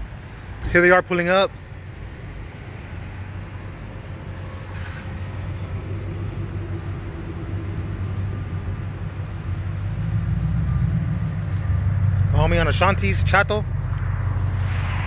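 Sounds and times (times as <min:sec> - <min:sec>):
background traffic: 0:00.0 - 0:15.0.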